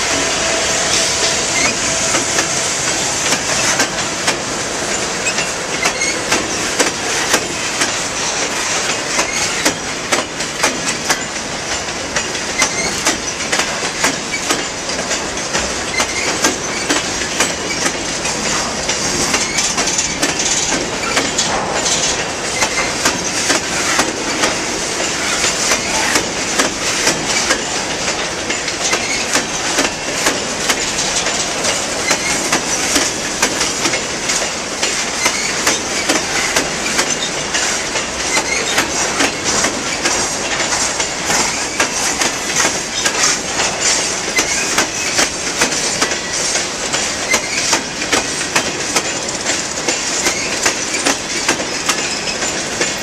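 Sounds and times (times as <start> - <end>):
freight train rolling past: 0.0 - 53.0
steel wheels clacking over rail joints: 0.0 - 53.0.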